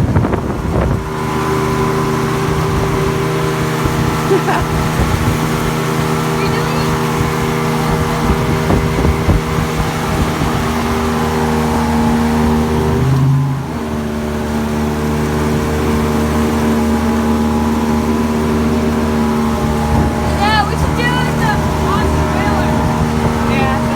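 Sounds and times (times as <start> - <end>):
outboard motor running: 0.0 - 23.9
water rushing: 0.0 - 23.9
wind: 0.0 - 23.9.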